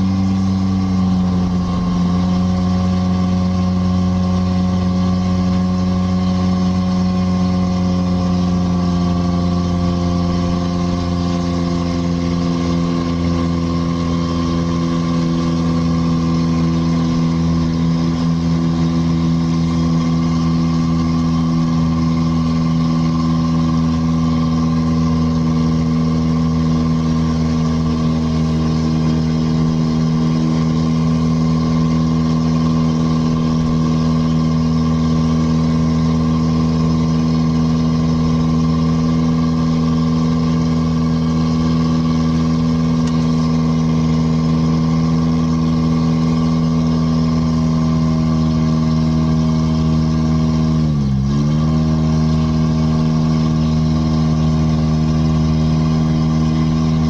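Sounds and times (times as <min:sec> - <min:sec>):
vehicle engine running under load: 0:00.0 - 0:57.0.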